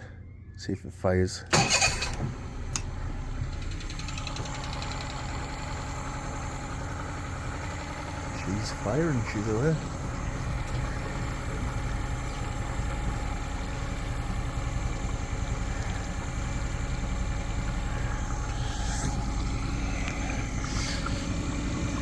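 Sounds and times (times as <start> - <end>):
outboard motor idling: 1.5 - 22.0.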